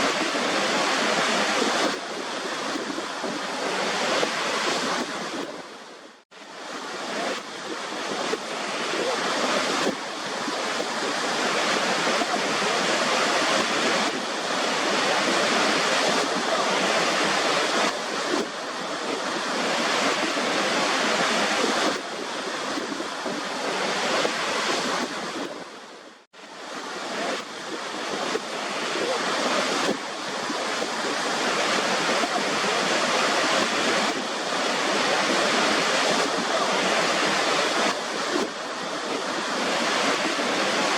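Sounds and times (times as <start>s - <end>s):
waterfall roaring: 0.0s - 5.5s, 6.4s - 25.8s, 26.6s - 40.9s.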